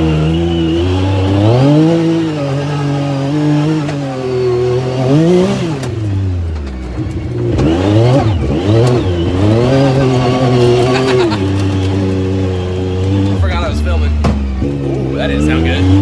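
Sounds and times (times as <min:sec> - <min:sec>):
engine revving hard: 0:00.0 - 0:16.0.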